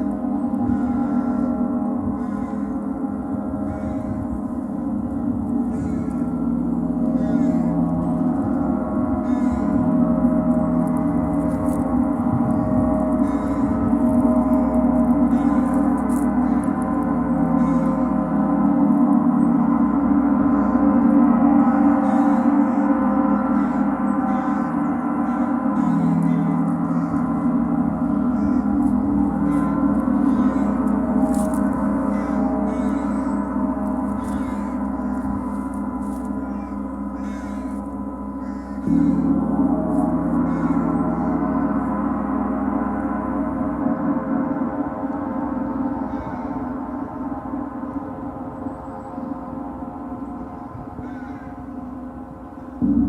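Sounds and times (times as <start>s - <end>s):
gong ringing: 0.0s - 53.0s.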